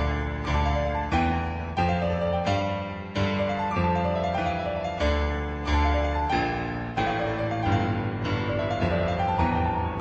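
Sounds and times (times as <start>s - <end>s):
piano background music: 0.0s - 10.0s.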